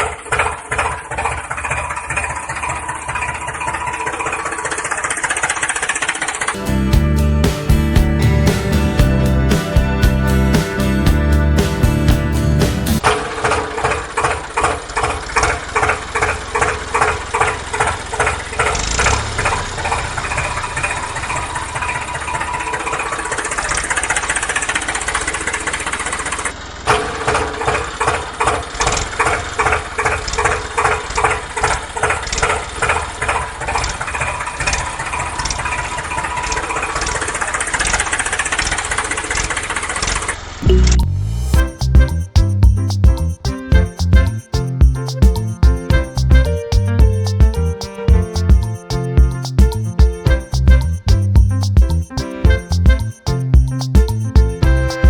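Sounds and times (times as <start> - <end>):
tractor engine chugging: 0.0 - 40.9, 41.6 - 55.0.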